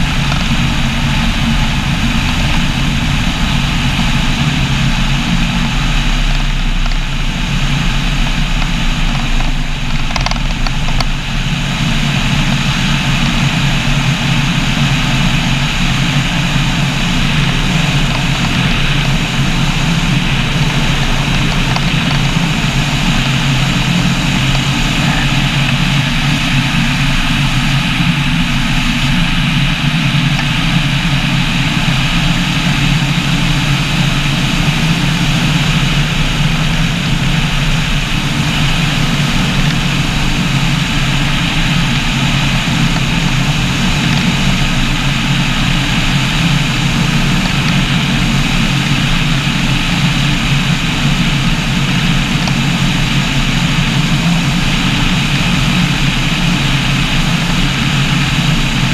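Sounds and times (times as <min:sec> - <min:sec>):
aircraft engine and propeller: 0:00.0 - 0:58.9
wind rushing over microphone: 0:00.0 - 0:58.9.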